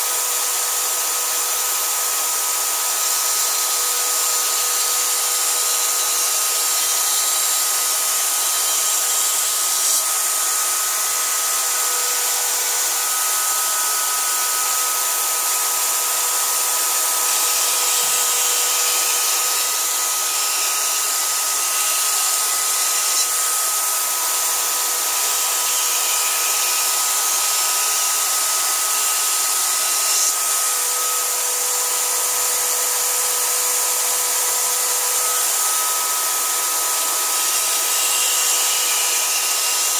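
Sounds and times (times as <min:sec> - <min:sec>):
electric drill whine: 0:00.0 - 0:39.9
blade grinding on stone: 0:02.4 - 0:39.9.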